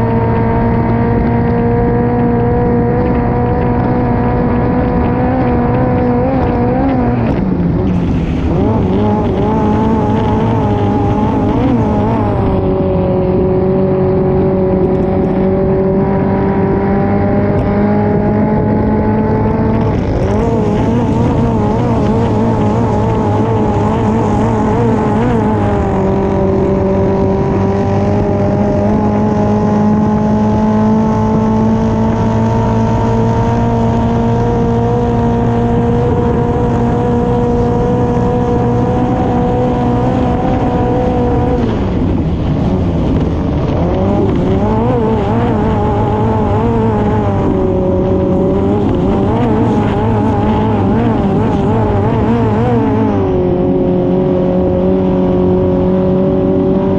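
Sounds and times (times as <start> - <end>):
engine running at high revs: 0.0 - 56.9.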